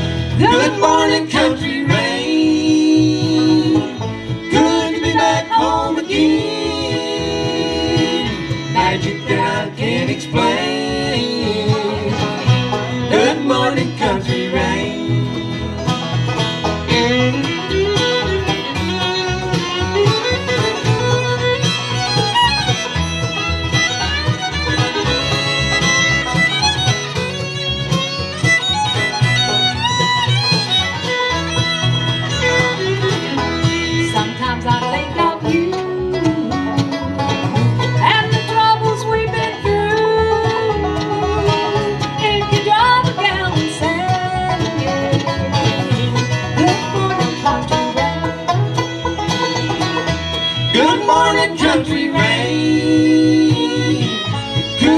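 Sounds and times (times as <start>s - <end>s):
acoustic guitar: 0.0s - 54.9s
banjo: 0.0s - 54.9s
fiddle: 0.0s - 54.9s
mandolin: 0.0s - 54.9s
upright bass: 0.0s - 54.9s.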